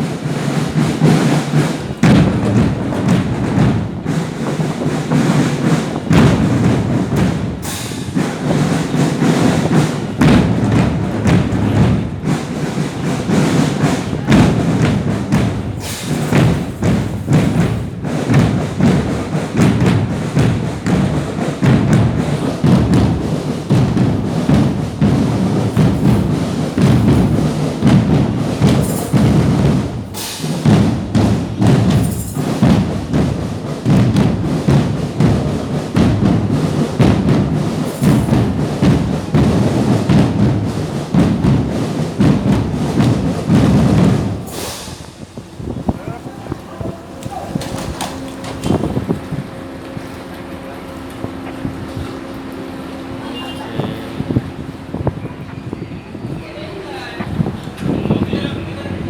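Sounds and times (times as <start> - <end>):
drum-led music: 0.0 - 49.7
heavy thuds and percussion strikes: 0.0 - 50.5.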